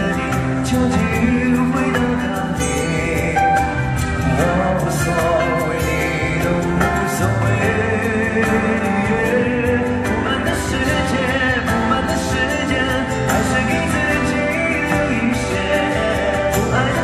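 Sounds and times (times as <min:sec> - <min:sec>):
backing music with steady beat: 0:00.0 - 0:17.0
man singing into microphone: 0:00.0 - 0:17.0.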